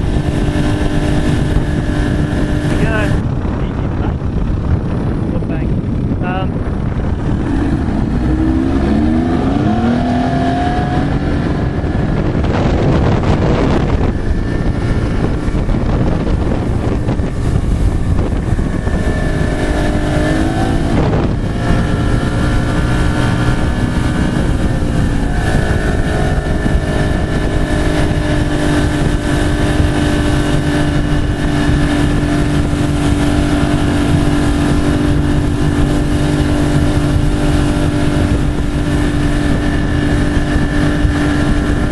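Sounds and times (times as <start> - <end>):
boat engine running: 0.0 - 41.9
steady rushing noise: 0.0 - 41.9.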